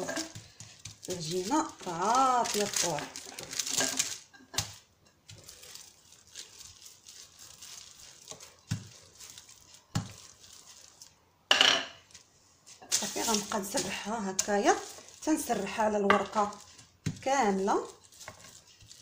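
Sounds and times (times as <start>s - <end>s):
plastic wrap rustling: 0.0s - 11.3s, 12.0s - 19.0s.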